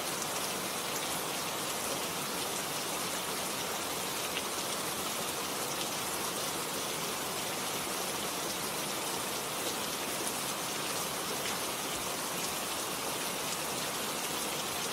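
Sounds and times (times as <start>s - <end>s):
steady rainfall: 0.0s - 14.9s.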